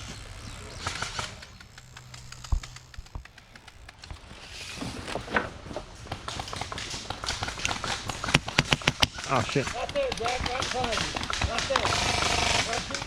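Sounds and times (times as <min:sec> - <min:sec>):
small clicks: 0:00.0 - 0:05.5, 0:06.1 - 0:13.0.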